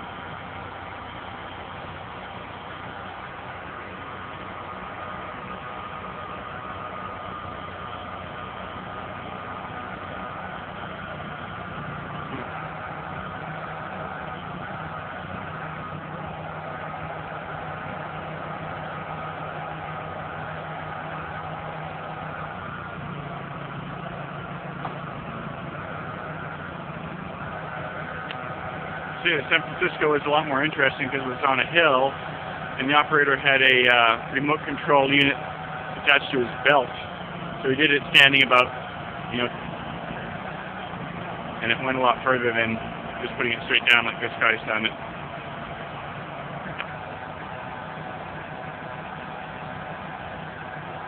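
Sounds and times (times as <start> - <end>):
truck engine running: 0.0 - 51.0.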